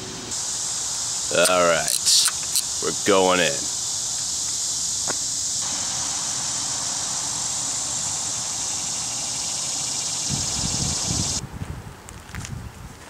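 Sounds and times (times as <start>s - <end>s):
insects droning: 0.0s - 11.4s.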